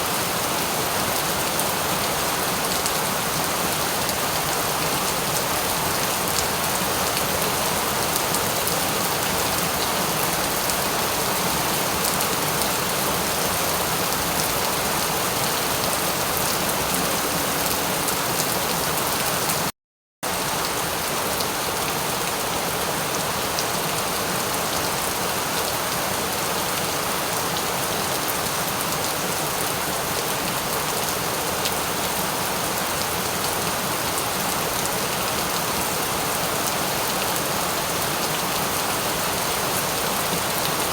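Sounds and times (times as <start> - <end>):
steady rain falling: 0.0 - 19.7, 20.3 - 40.9.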